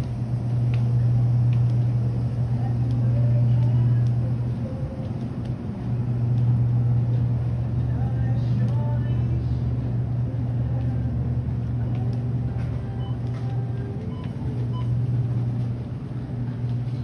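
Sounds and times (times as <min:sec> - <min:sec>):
low hum of refrigeration: 0:00.0 - 0:17.0.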